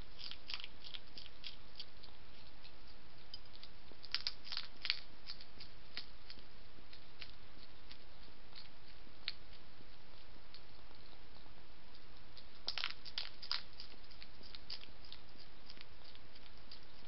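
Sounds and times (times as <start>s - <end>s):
background hiss: 0.0s - 17.0s
hedgehog crunching food: 0.0s - 17.0s.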